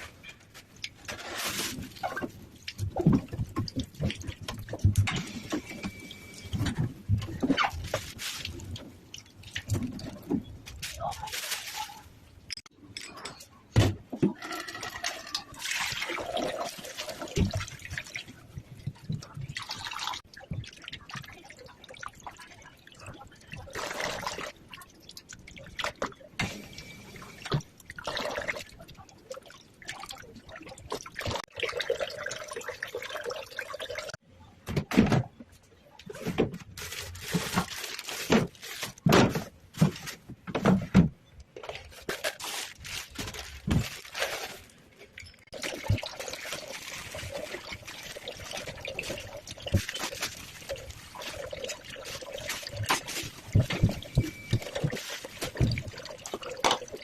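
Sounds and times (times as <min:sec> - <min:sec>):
liquid pouring and sloshing: 0:00.0 - 0:12.2, 0:14.1 - 0:34.2, 0:36.1 - 0:41.0, 0:41.6 - 0:57.0.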